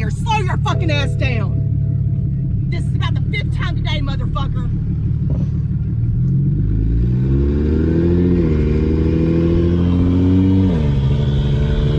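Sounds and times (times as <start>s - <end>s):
car engine accelerating: 0.0s - 11.9s.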